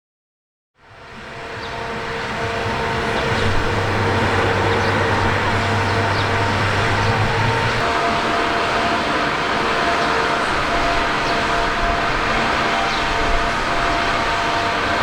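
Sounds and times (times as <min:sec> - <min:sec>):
mist fan rushing air and spray: 0:01.0 - 0:15.0.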